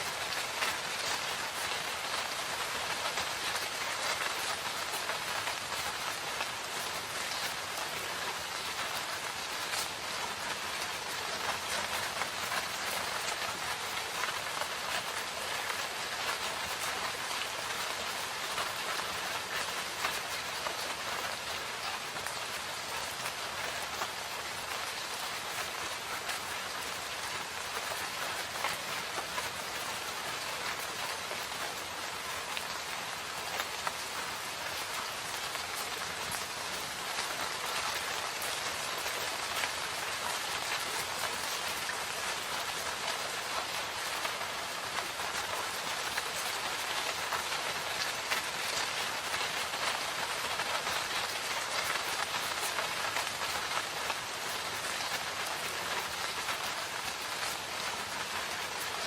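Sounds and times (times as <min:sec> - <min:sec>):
drops pattering on leaves: 0:00.0 - 0:59.0
steady rain hiss: 0:00.0 - 0:59.0.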